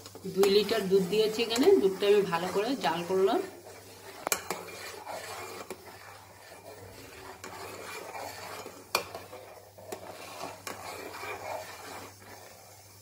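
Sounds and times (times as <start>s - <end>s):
ladle scraping metal pot: 0.0s - 13.0s.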